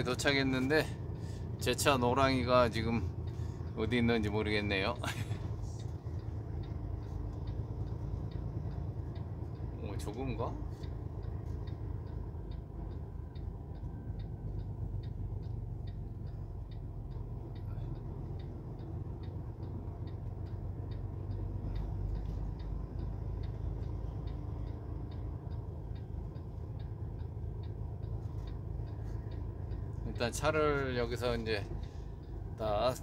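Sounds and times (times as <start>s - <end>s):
low engine hum: 0.0s - 33.0s
turn signal ticking: 0.0s - 33.0s.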